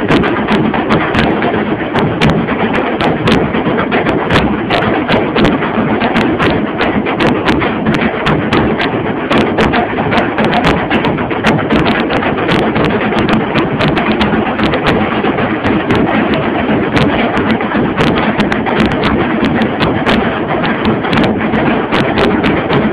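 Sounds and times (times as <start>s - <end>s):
deep drum beating: 0.0s - 22.9s.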